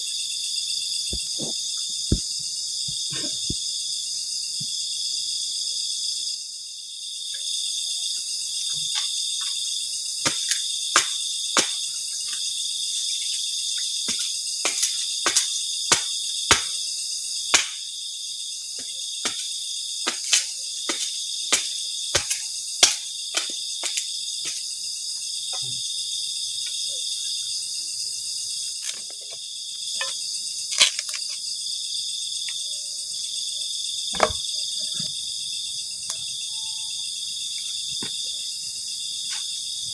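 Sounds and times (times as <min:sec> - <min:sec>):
crickets and night insects trilling: 0:00.0 - 0:39.9.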